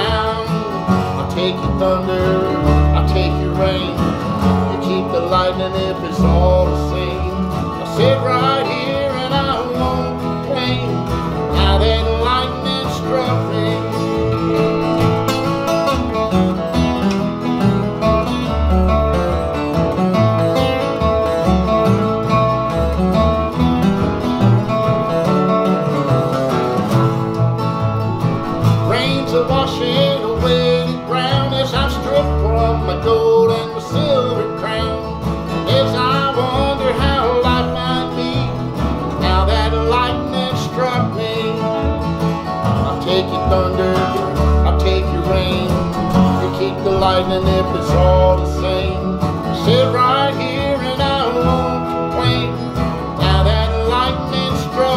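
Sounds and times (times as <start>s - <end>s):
acoustic guitars strumming: 0.0s - 54.9s
electric guitar lead: 0.0s - 54.9s
upright bass: 0.0s - 54.9s.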